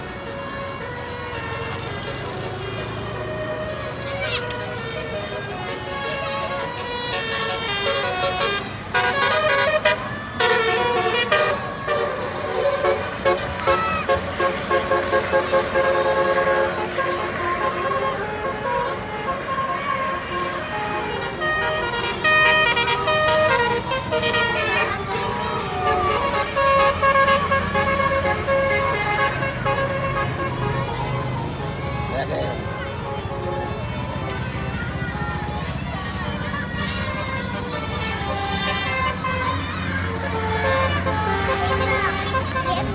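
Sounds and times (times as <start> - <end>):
musical bus horn playing a tune: 0.0 - 42.9.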